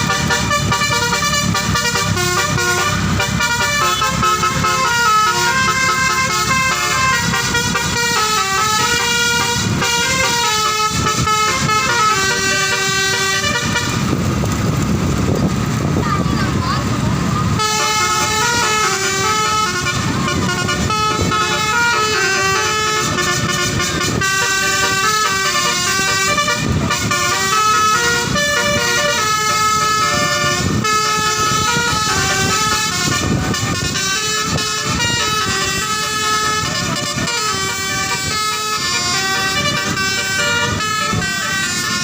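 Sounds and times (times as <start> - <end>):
multi-tone bus air horn melody: 0.0 - 14.4, 17.4 - 42.0.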